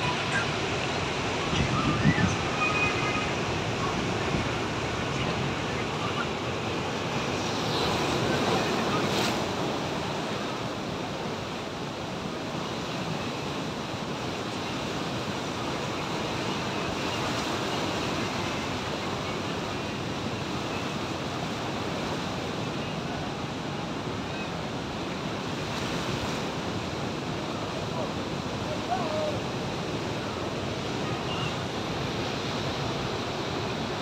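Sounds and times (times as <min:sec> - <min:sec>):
sea surf breaking against rocks: 0:00.0 - 0:34.0.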